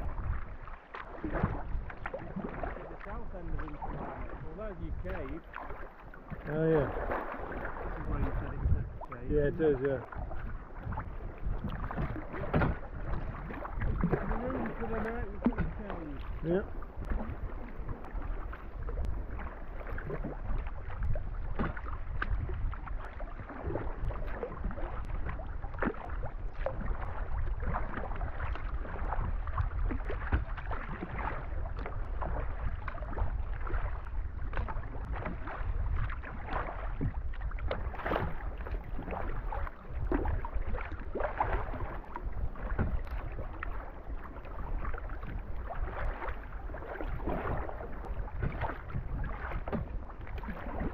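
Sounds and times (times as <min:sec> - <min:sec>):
paddle blades splashing: 0:00.0 - 0:50.9
waves slapping against hull: 0:00.0 - 0:50.9
wind rumble on microphone: 0:00.0 - 0:50.9.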